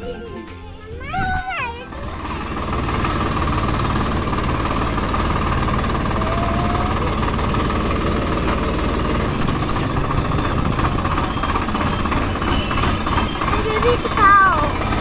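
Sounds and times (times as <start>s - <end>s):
steady engine whine: 0.0s - 15.0s
tractor diesel engine knocking: 0.0s - 15.0s.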